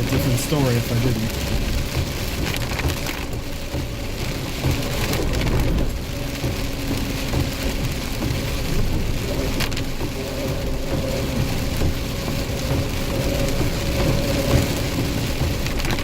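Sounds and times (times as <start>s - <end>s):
steady rain falling: 0.0s - 16.0s
vehicle engine running: 0.0s - 16.0s.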